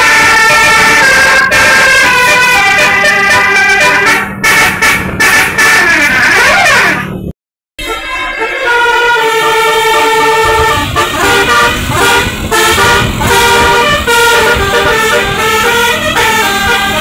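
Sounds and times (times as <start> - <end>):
multi-tone bus horn melody: 0.0 - 17.0
low rumble: 2.1 - 15.9.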